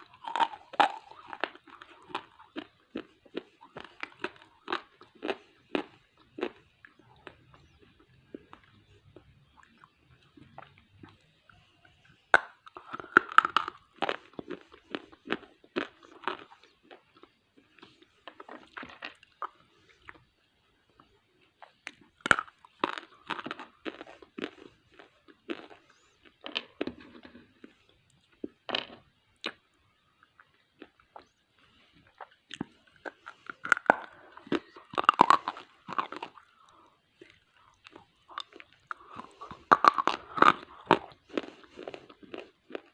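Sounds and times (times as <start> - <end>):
crunchy bites and chewing: 0.0 - 11.3, 12.3 - 20.3, 21.0 - 31.4, 32.0 - 42.9.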